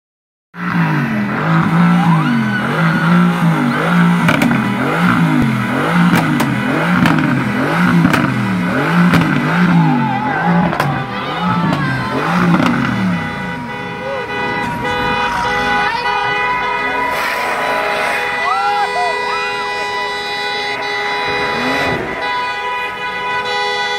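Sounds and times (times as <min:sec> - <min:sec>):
exhaust cracks: 0:00.6 - 0:23.7
car engine revving: 0:00.6 - 0:23.9.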